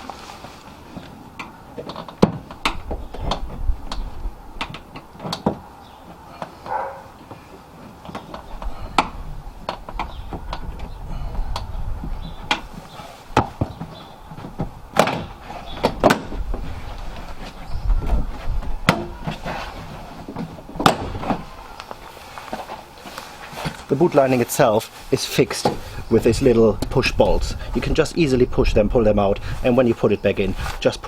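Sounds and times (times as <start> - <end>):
rustle: 0.0 - 31.0.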